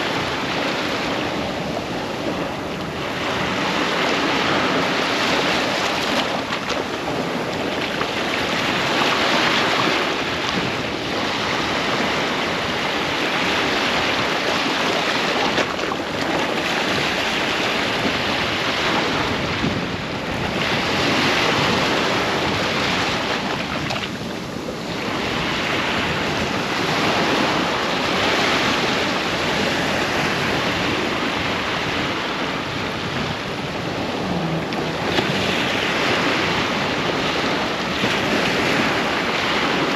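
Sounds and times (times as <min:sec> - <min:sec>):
waves breaking on a beach: 0:00.0 - 0:39.9
wind buffeting microphone: 0:00.0 - 0:39.9.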